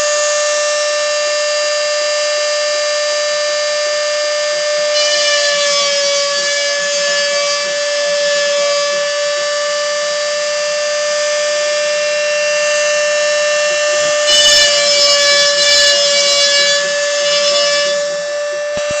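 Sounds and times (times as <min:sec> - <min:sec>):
router spindle whine: 0:00.0 - 0:19.0.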